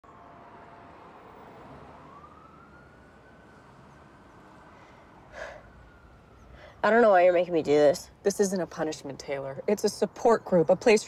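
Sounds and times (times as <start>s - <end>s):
distant siren: 0.0s - 11.0s
low street noise: 0.0s - 11.0s.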